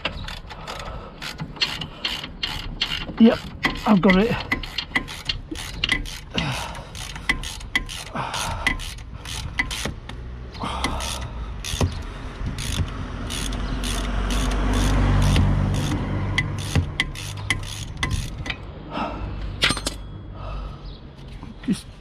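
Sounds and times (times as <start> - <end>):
socket ratchet clicking: 0.0 - 10.2, 10.8 - 18.7.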